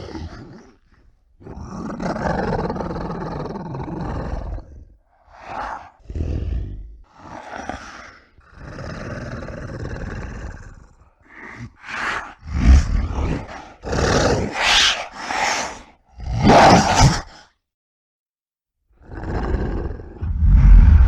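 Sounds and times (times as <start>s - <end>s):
monster roars and growls: 1.5s - 17.4s, 19.1s - 21.0s.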